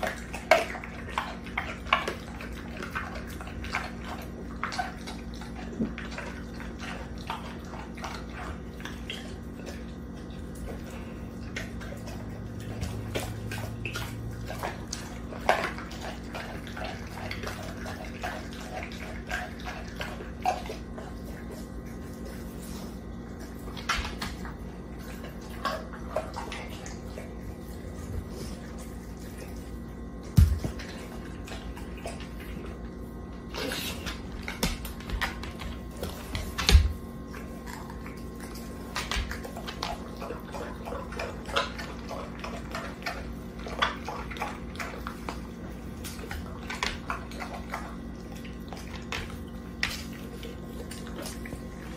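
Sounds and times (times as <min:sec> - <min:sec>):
dog licking raw chicken: 0:00.0 - 0:51.9.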